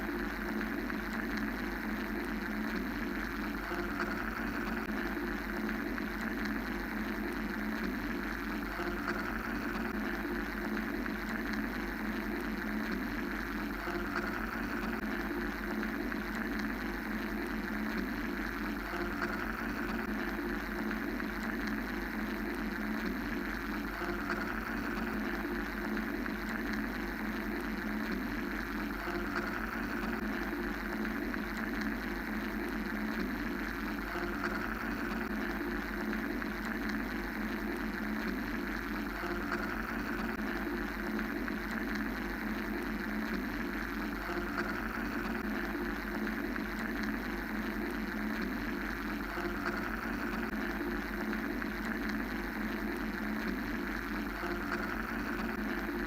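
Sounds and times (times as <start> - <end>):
mechanical white noise drone: 0.0 - 56.0.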